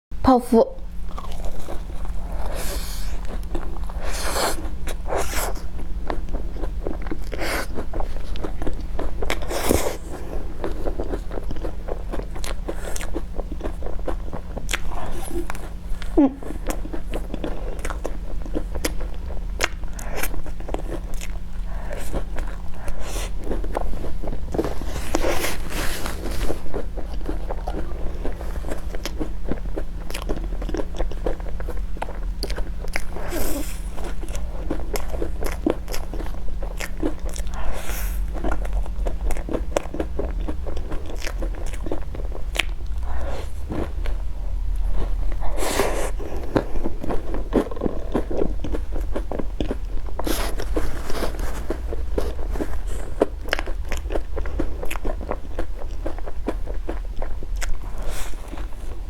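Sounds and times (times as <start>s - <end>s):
person chewing crunchy food: 0.9s - 59.0s.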